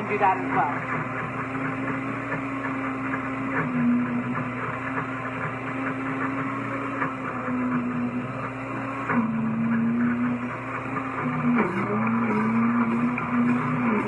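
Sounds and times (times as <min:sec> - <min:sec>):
blender running: 0:00.0 - 0:14.0.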